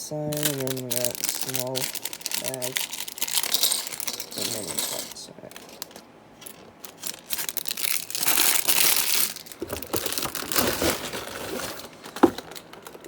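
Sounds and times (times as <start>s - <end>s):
plastic bag crinkling: 0.3s - 13.0s.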